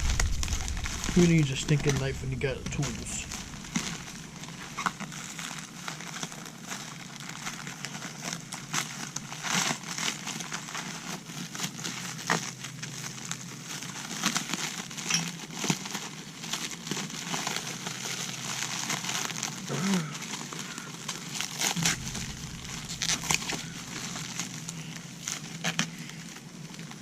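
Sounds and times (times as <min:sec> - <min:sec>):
plastic wrap crinkling: 0:00.0 - 0:27.0.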